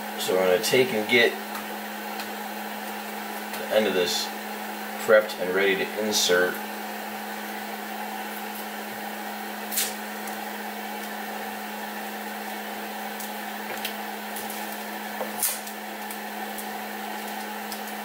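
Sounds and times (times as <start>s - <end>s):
printer fans humming: 0.0s - 18.0s.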